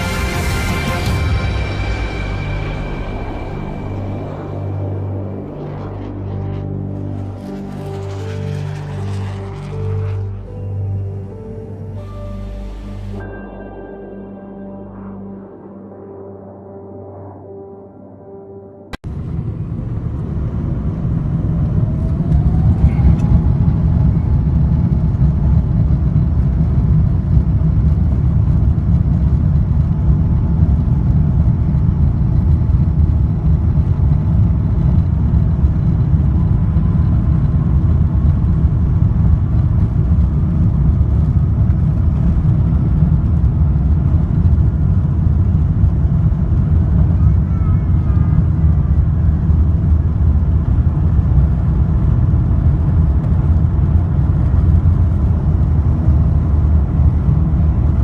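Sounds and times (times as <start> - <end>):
jet engines rumbling at takeoff: 0.0 - 13.2, 19.0 - 58.0
whine rising in pitch: 0.0 - 58.0.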